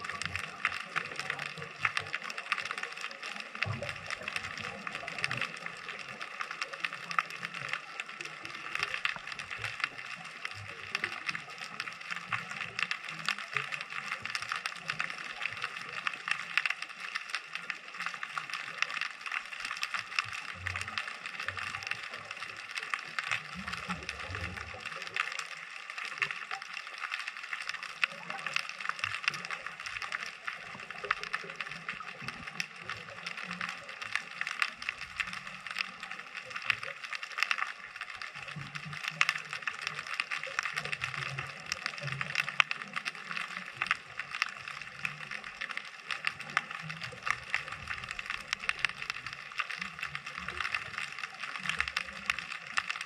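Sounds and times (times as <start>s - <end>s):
low underwater sounds: 0.0s - 53.0s
underwater crackle of clicks: 0.0s - 53.0s.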